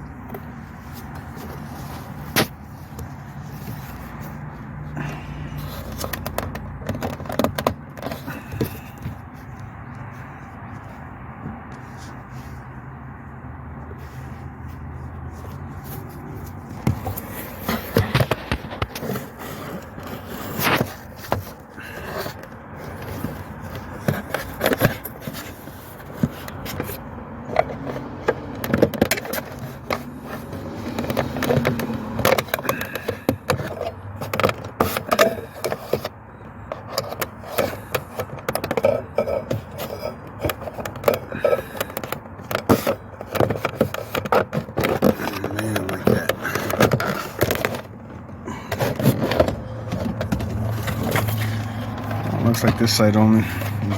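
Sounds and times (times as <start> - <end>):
plastic scraping and clicking: 0.0 - 12.7, 13.8 - 53.9.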